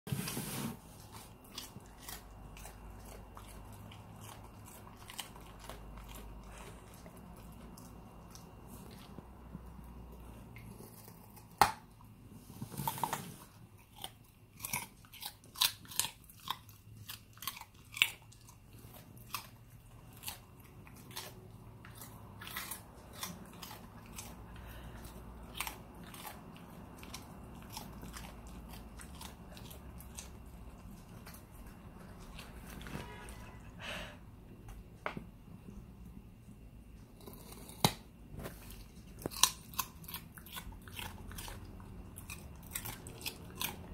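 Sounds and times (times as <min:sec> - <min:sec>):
dog chewing a carrot: 0:00.9 - 0:33.4, 0:36.8 - 0:43.9.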